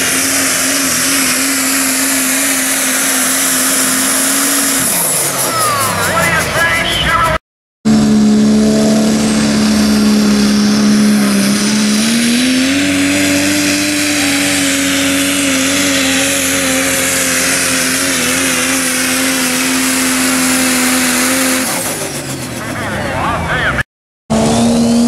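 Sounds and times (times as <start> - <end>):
diesel truck engine at full throttle: 0.0 - 25.0.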